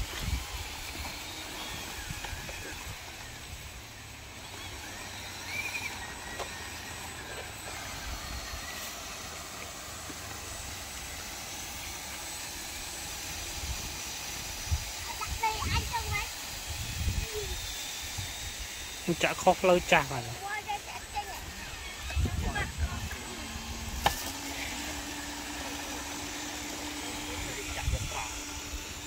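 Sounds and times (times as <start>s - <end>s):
small electric motors whirring: 0.0s - 29.0s.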